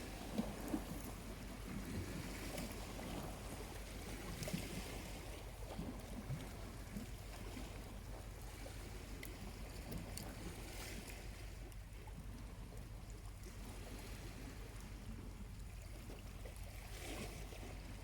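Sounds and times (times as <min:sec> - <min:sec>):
small waves lapping: 0:00.0 - 0:18.0.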